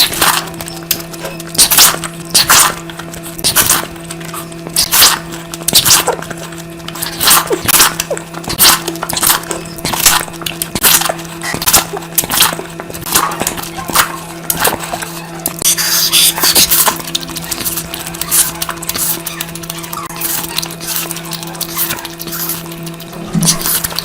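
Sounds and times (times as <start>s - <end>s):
steady low hum: 0.0s - 24.0s
wet chewing and smacking: 0.0s - 24.0s.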